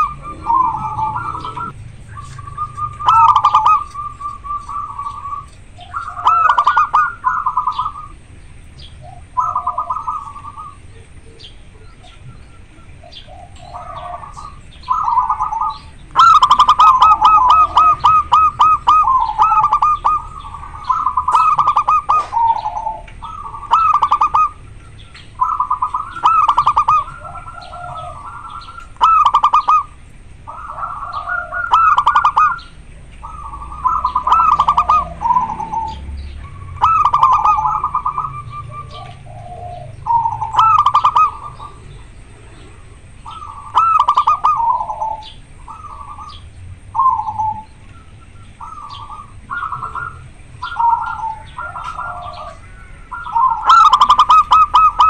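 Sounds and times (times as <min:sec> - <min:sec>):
dove cooing song: 0:00.0 - 0:55.0.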